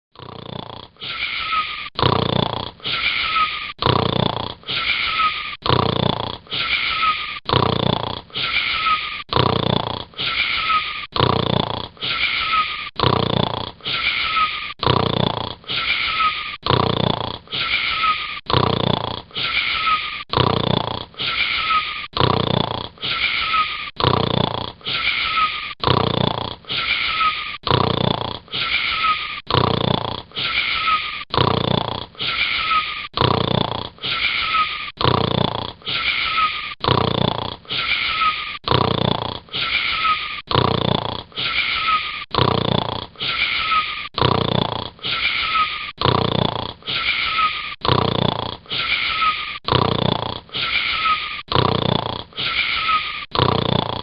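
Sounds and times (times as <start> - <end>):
wheezing snores with whistle: 0.2 - 54.0.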